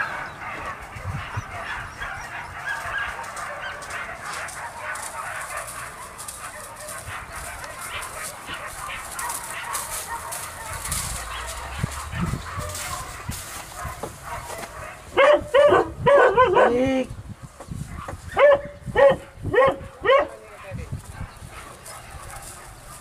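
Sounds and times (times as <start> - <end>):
dogs barking: 0.0 - 23.0.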